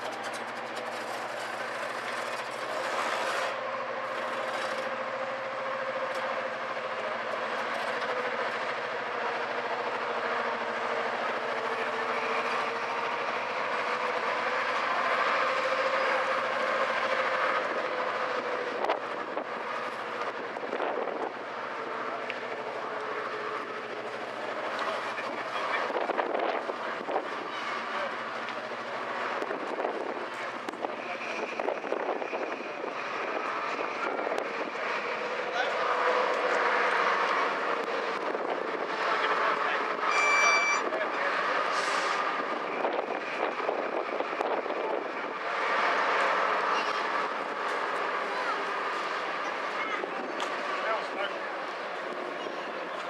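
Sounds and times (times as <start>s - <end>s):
diesel engine humming: 0.0s - 53.0s
engine whine: 0.0s - 53.0s.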